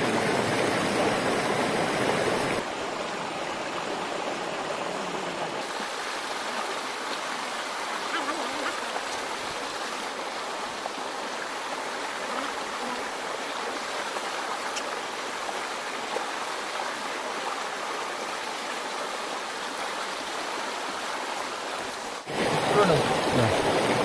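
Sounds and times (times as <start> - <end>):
stream running over stones: 0.0 - 24.0.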